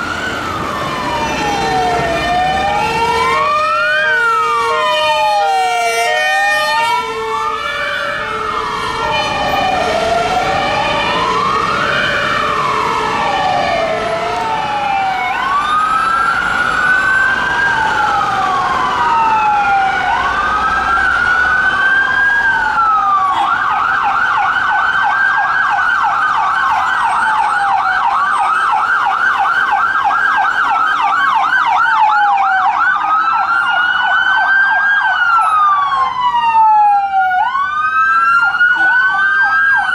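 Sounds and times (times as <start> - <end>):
ambulance siren wailing: 0.0 - 39.9
police siren wail and yelp: 0.0 - 39.9.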